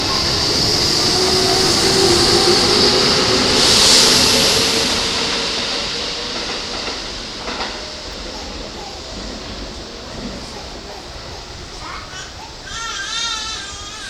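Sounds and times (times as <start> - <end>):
electric train wheels rumbling: 0.0 - 14.0
high hiss of train: 0.0 - 14.0.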